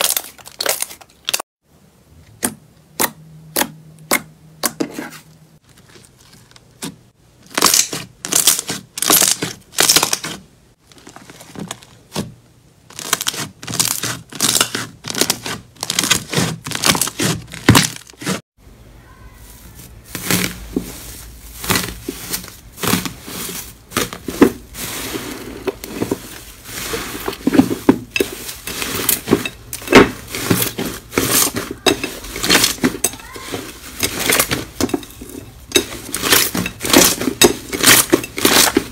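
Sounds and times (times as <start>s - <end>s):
foil crinkling: 0.0s - 1.4s, 7.4s - 12.3s, 12.9s - 18.4s, 19.4s - 38.9s.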